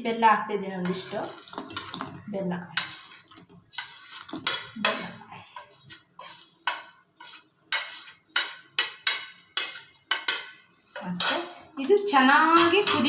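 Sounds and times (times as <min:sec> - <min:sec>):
metal spoon scraping a pot: 0:00.7 - 0:13.0.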